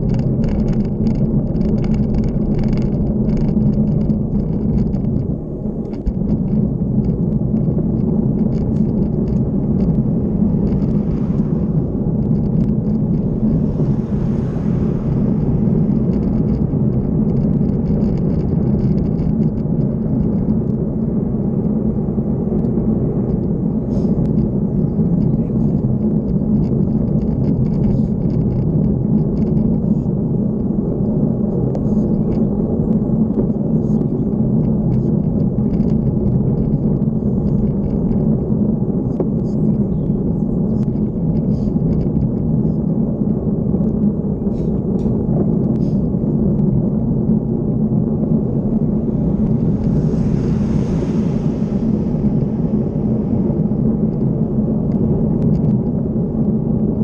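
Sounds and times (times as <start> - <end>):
road rumble: 0.0 - 57.0
wind on microphone: 0.0 - 57.0.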